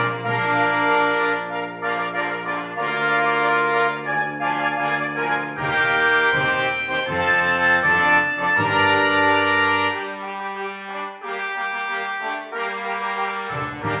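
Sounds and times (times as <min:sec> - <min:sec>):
brass background music: 0:00.0 - 0:14.0.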